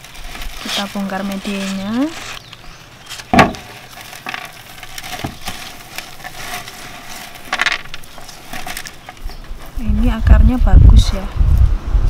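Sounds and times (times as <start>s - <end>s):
loud rustle: 0.0s - 10.0s
crumbling potting medium and roots: 0.0s - 12.0s.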